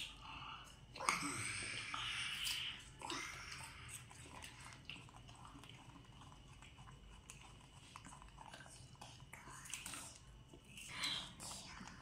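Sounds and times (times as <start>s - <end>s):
chewing crisp fruit: 0.0s - 12.0s.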